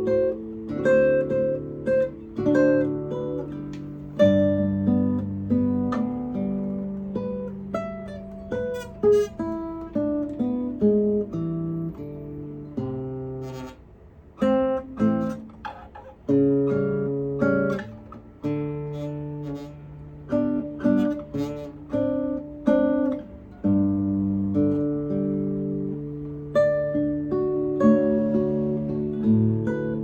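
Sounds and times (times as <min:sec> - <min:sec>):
fingerstyle guitar: 0:00.0 - 0:30.0.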